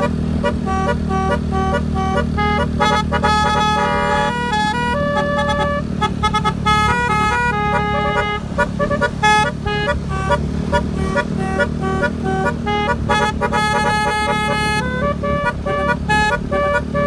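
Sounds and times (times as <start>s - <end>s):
musical horn tooting melody: 0.0s - 17.0s.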